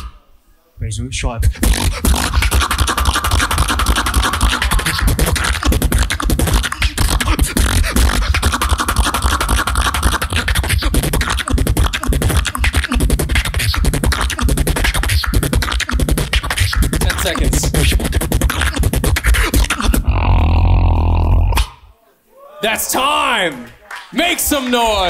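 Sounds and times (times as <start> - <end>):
person beatboxing: 0.0 - 0.2, 1.4 - 21.9.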